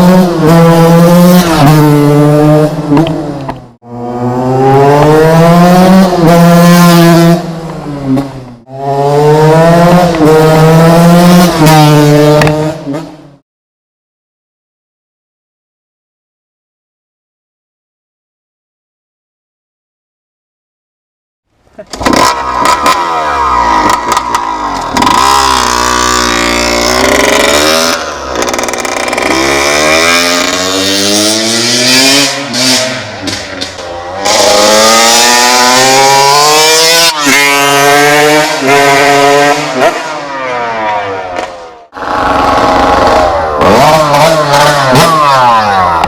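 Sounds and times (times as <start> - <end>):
motorcycle engine revving: 0.0 - 13.4, 21.9 - 46.0.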